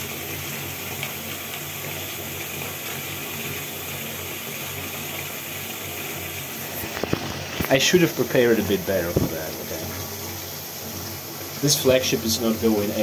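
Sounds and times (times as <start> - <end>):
running water hiss: 0.0 - 13.0.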